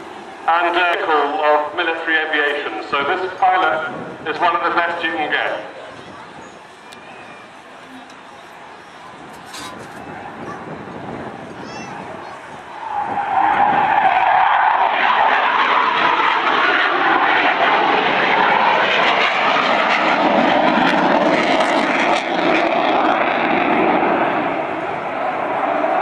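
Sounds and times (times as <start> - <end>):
jet aircraft flying past: 0.0 - 26.0.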